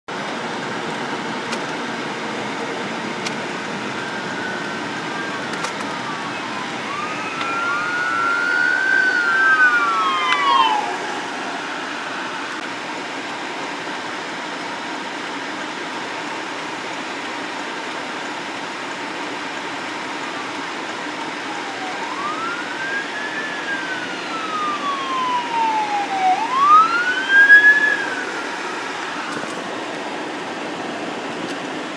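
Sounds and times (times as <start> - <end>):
steady background noise: 0.1 - 31.9
emergency vehicle siren wailing: 2.1 - 14.9, 16.4 - 31.9.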